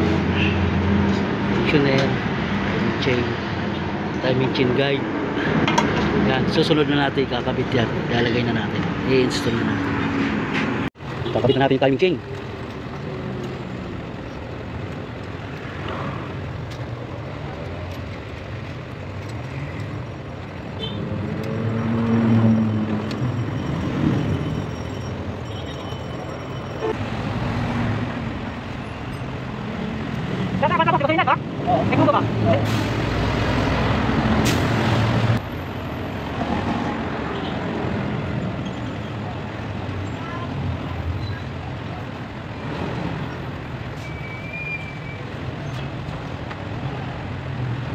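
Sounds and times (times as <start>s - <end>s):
road noise: 0.0s - 47.9s
vehicle engine hum: 0.0s - 47.9s.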